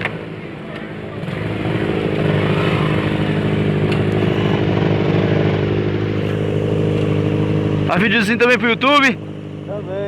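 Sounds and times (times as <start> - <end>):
motorcycle engine running: 1.0 - 10.0.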